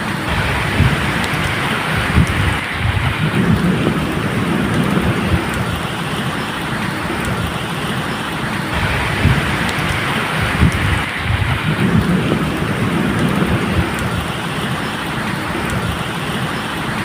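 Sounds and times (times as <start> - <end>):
distant thunder rumble: 0.0 - 17.0
steady rain falling: 0.0 - 17.0.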